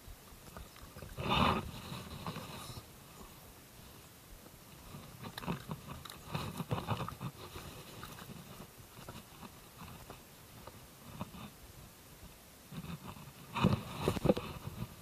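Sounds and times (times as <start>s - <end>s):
rustling on a straw bank: 0.0s - 15.0s.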